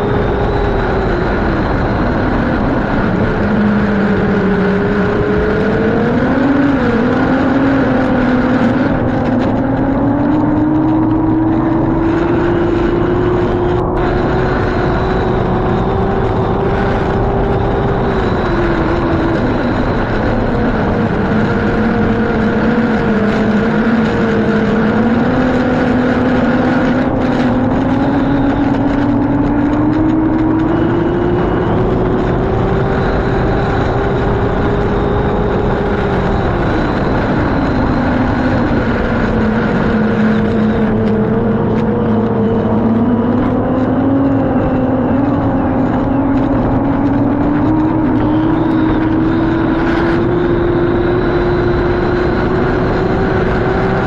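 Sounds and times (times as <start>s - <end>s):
race boat engine running hard: 0.0s - 54.0s
steady rushing noise: 0.0s - 54.0s.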